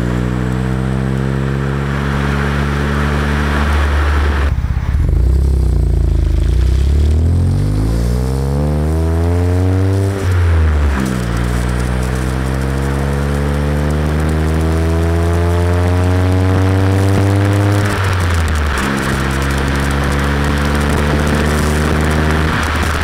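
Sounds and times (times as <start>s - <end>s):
car exhaust accelerating: 0.0s - 23.0s.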